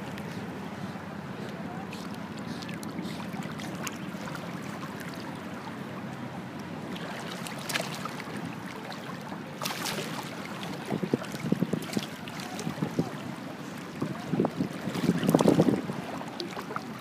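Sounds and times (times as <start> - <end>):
water splashes: 1.3 - 17.0.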